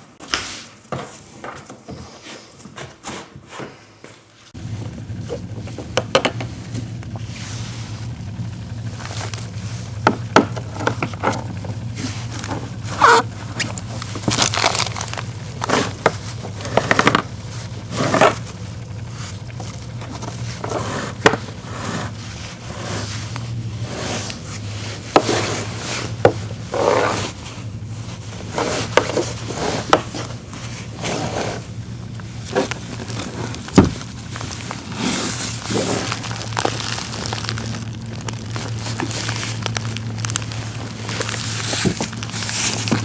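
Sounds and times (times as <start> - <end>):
steady low hum: 0.0 - 43.0
rope scraping kayak hull: 6.6 - 43.0.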